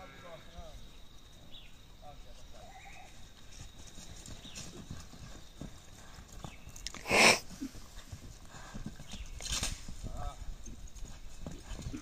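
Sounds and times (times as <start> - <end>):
hoofbeats on dirt: 1.2 - 12.0.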